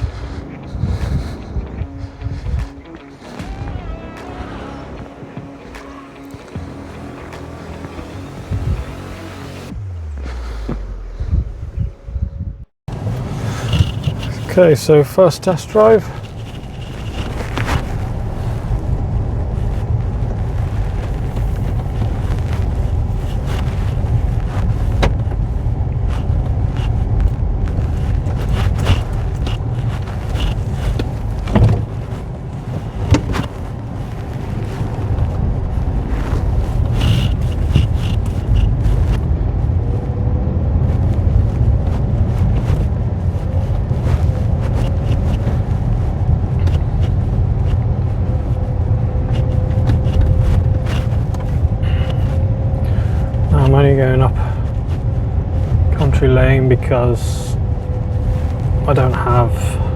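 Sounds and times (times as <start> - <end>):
car road rumble: 0.0 - 59.9.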